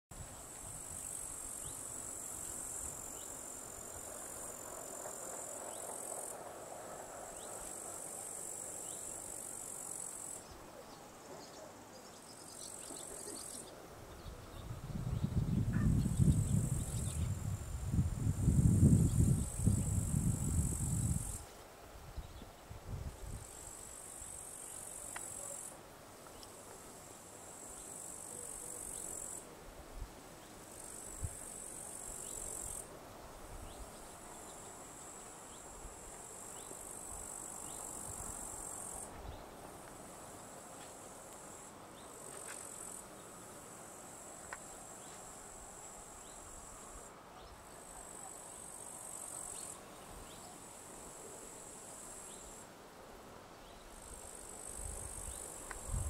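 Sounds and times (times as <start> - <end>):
insects chirring: 0.2 - 21.6, 23.2 - 29.4, 30.4 - 32.9, 33.5 - 52.7, 53.6 - 56.0.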